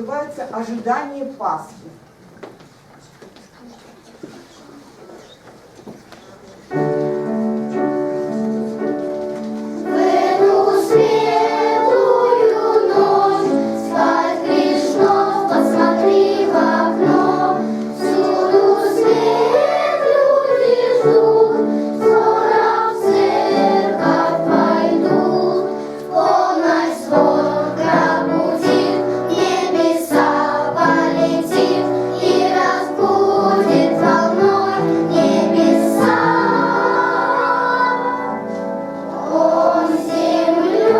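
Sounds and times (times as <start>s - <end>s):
children's choir singing: 6.7s - 40.9s.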